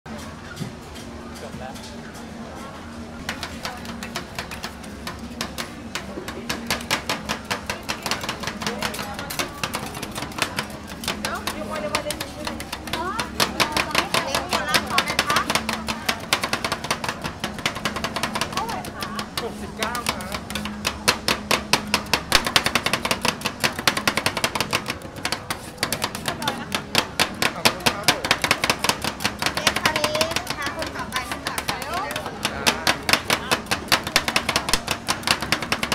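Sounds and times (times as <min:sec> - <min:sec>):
metal spatulas tapping on steel plate: 0:03.2 - 0:35.9.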